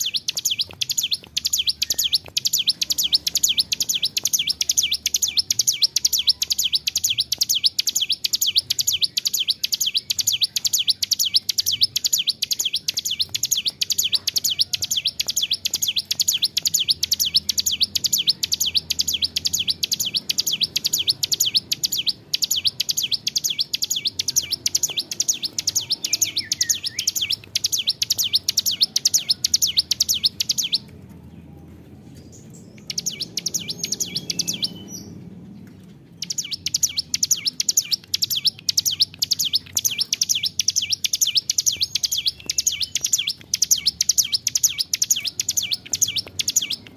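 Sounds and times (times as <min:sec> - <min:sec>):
bird singing rapid high notes: 0:00.0 - 0:30.9, 0:32.3 - 0:35.3, 0:36.2 - 0:46.9.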